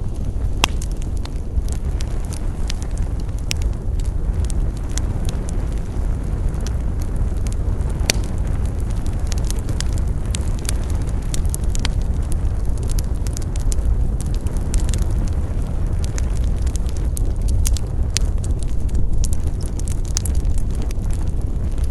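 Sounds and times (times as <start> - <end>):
campfire crackling and popping: 0.0 - 21.9
low rumble: 0.0 - 21.9.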